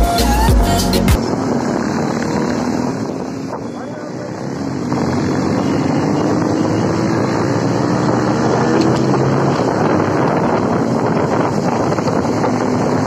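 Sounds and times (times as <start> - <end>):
wind rushing over microphone: 1.2 - 13.0.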